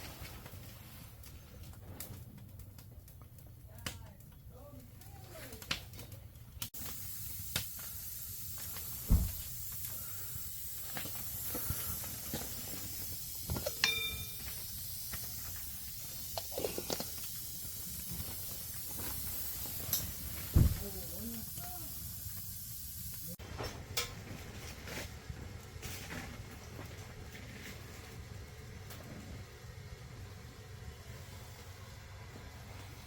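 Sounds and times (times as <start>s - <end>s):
pot boiling with steamy hiss: 0.0s - 33.0s
wood fire crackling: 0.0s - 33.0s.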